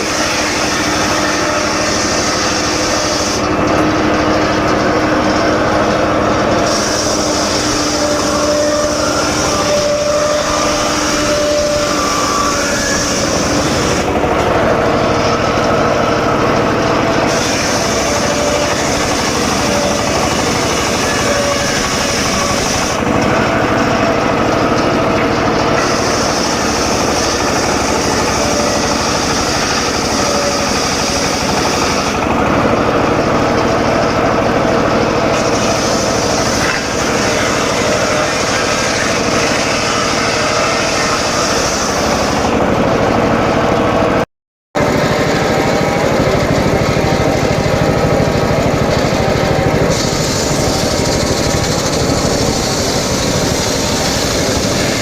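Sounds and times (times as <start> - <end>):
circular saw cutting logs: 0.0 - 44.2, 44.8 - 55.0.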